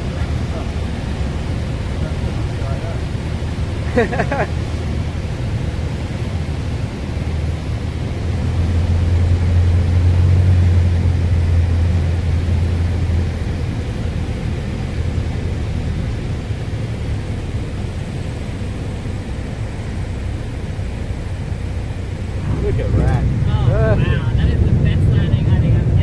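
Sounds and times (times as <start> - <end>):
aircraft engine and propeller droning: 0.0 - 26.0
rushing airflow: 0.0 - 26.0.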